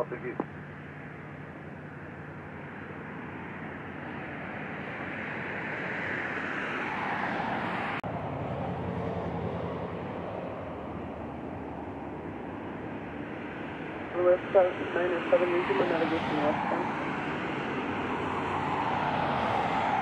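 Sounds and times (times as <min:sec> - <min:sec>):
jet airliner passing: 0:00.0 - 0:20.0.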